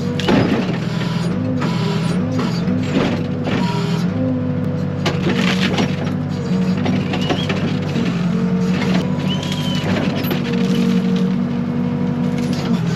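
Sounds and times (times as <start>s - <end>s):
diesel engine under load: 0.0s - 12.9s.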